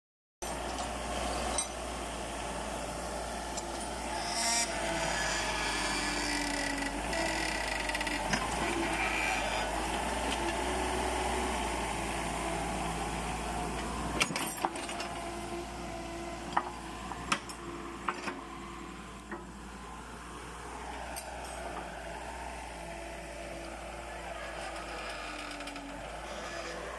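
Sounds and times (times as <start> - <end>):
excavator engine under load: 0.4 - 26.9.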